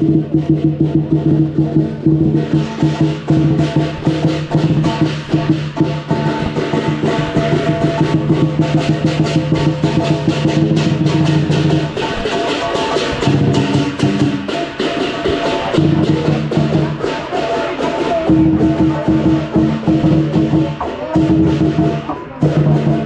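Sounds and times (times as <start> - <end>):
big drum beaten fast: 0.0 - 23.0
cymbals clashing: 0.0 - 23.0.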